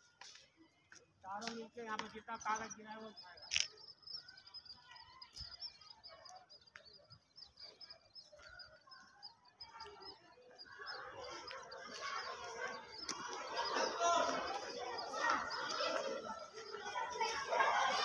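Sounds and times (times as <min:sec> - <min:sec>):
children's voices chattering: 0:00.0 - 0:18.0
small birds chirping: 0:00.0 - 0:18.0.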